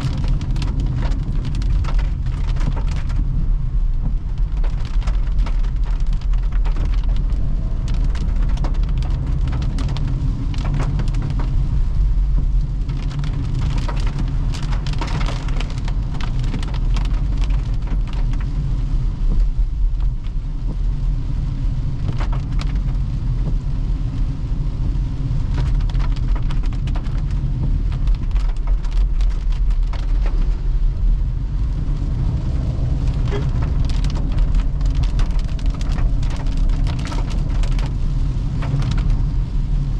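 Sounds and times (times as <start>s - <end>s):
raindrops hitting a car: 0.0s - 39.9s
tyres rumbling on wet road: 0.0s - 39.9s.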